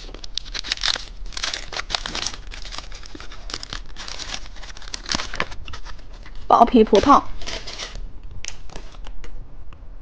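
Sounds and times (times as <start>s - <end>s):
plastic wrapper crinkling and tearing: 0.0s - 9.2s.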